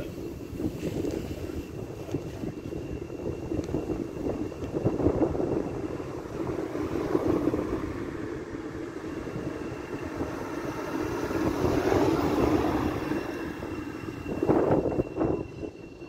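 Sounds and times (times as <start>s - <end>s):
faint high whine: 0.0s - 16.0s
train wheels rumbling on rail: 0.0s - 16.0s.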